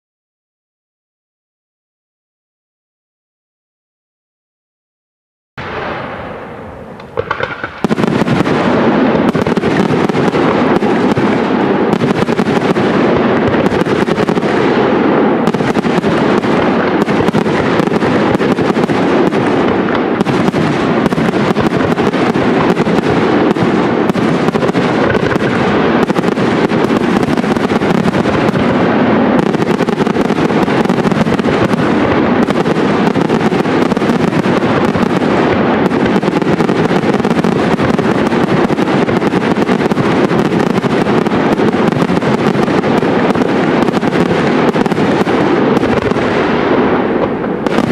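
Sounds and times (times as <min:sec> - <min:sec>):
fireworks bursts and crackling: 0:05.6 - 0:47.9.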